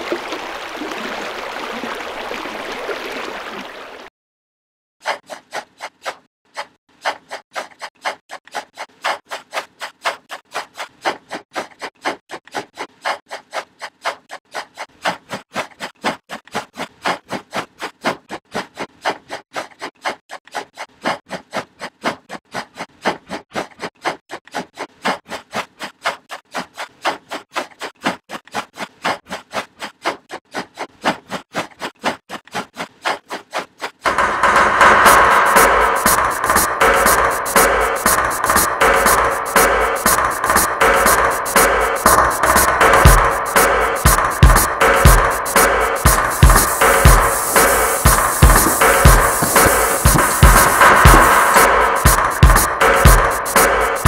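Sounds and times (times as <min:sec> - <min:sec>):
pencil scratching on paper: 0:05.0 - 0:34.2, 0:34.8 - 0:54.0.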